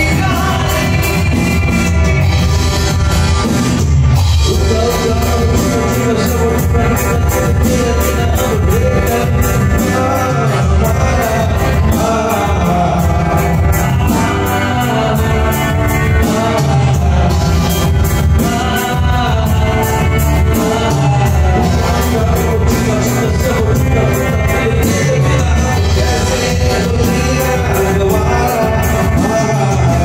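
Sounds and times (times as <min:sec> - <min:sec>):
live band playing: 0:00.0 - 0:30.0
person singing: 0:00.0 - 0:30.0
steady drum beat: 0:00.0 - 0:30.0.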